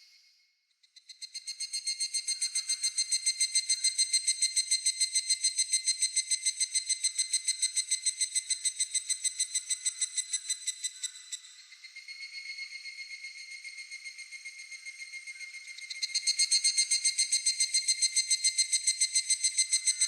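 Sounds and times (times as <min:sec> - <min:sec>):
cicada calling with ringing pulsed notes: 0:00.9 - 0:20.0.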